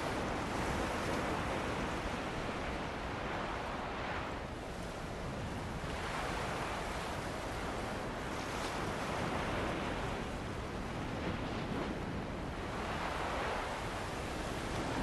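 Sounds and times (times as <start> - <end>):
ocean waves washing on beach: 0.0 - 15.0
wind: 0.0 - 15.0.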